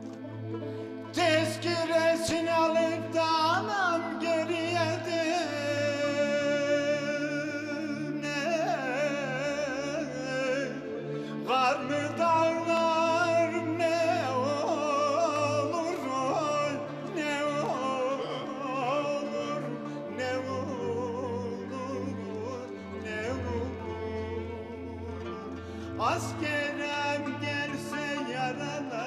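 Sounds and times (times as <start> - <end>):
bowed string instrument: 0.0 - 29.0
man singing folk song: 0.0 - 29.0.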